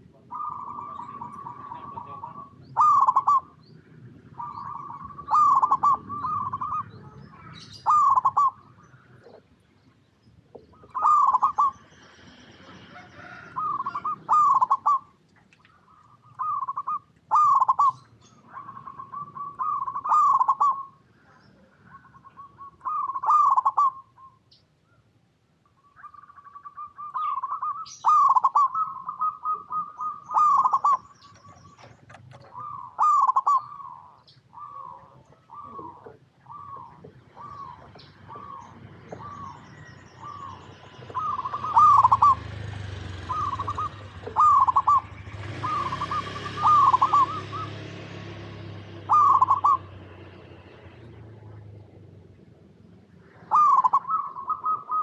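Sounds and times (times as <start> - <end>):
dove cooing: 0.0 - 9.6, 10.4 - 24.4, 26.0 - 52.0, 53.2 - 55.0.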